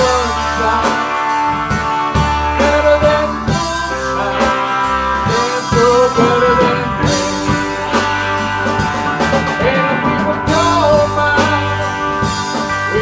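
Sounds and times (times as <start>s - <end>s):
rock band music: 0.0s - 13.0s.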